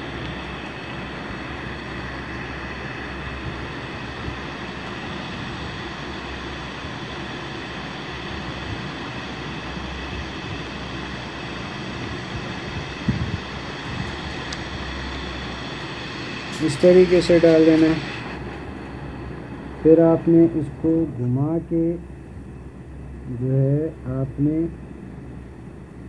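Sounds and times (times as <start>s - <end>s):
background hum and rumble: 0.0s - 26.0s
low mains hum: 0.0s - 26.0s.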